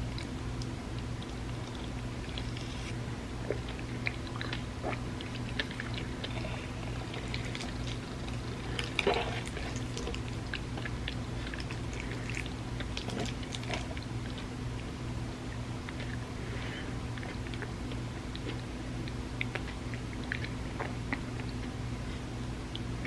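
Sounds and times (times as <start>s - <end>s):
person chewing: 0.0s - 14.9s, 15.8s - 22.8s
steady low hum: 0.0s - 23.0s.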